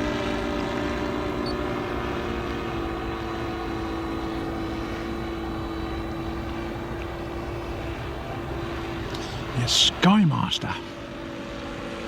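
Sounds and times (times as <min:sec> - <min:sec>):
model plane propeller engine drone: 0:00.0 - 0:12.0.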